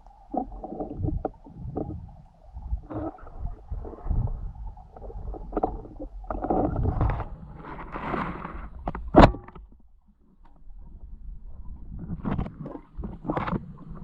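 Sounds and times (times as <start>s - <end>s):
muffled underwater rumbling: 0.0s - 14.0s.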